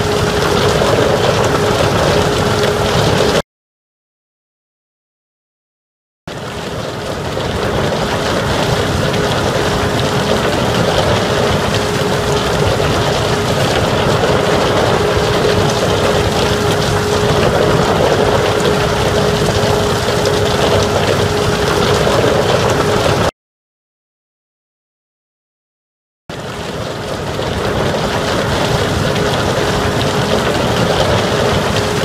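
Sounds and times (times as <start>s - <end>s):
industrial machinery hum: 0.0s - 3.4s, 6.3s - 23.3s, 26.3s - 32.0s.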